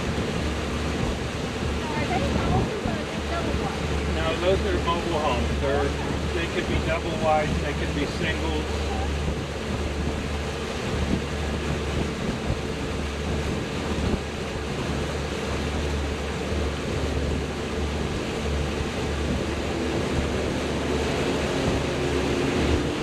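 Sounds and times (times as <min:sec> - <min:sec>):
outboard motor running: 0:00.0 - 0:23.0
water rushing past hull: 0:00.0 - 0:23.0
wind buffeting microphone: 0:00.0 - 0:23.0.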